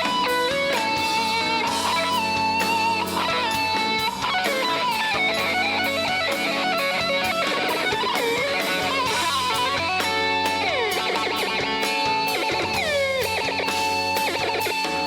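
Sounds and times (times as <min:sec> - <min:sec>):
electric guitar with bent notes: 0:00.0 - 0:15.0
live rock band playing: 0:00.0 - 0:15.0.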